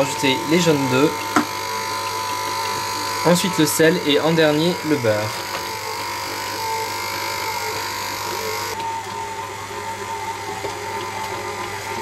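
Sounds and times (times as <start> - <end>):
stand mixer kneading dough: 0.0 - 12.0.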